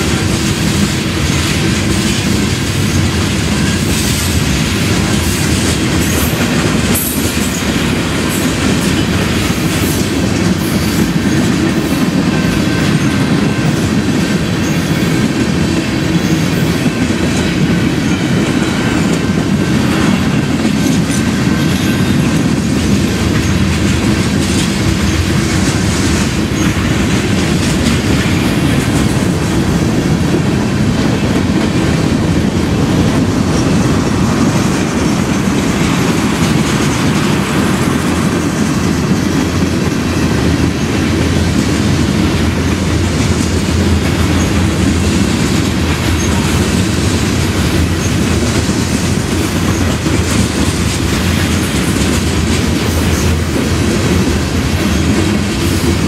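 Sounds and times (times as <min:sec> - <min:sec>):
freight train rumble: 0:00.0 - 0:56.0
wheels clacking over rail joints: 0:00.0 - 0:56.0.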